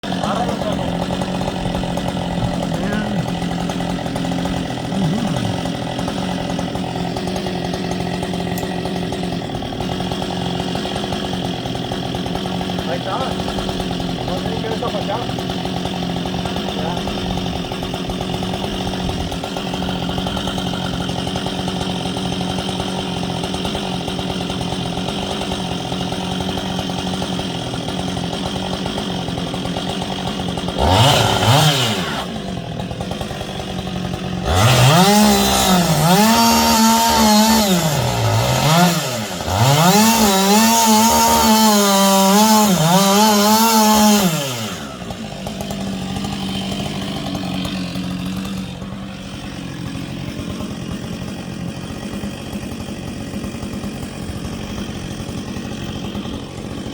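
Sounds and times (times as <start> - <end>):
chainsaw idling and cutting wood: 0.0 - 56.9.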